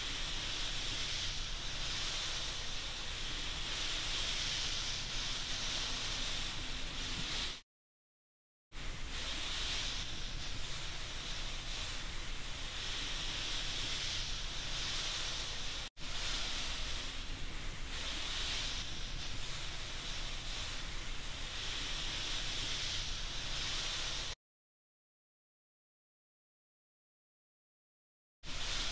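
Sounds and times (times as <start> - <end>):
steady hiss of noise: 0.0 - 7.6, 8.8 - 24.4, 28.5 - 28.9.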